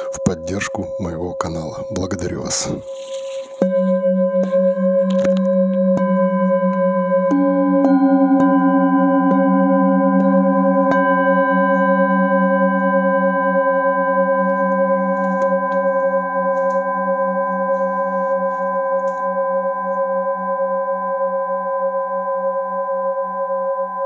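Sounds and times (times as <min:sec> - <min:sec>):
metal singing bowls ringing: 0:00.0 - 0:20.6.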